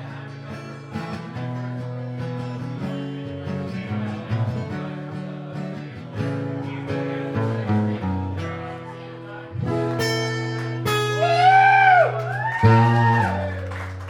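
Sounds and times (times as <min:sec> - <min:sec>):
solo guitar picked and strummed: 0:00.0 - 0:14.0.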